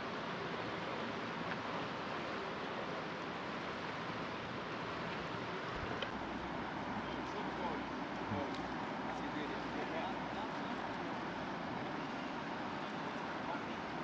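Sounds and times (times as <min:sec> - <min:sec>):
fast-flowing river rushing: 0:00.0 - 0:14.0.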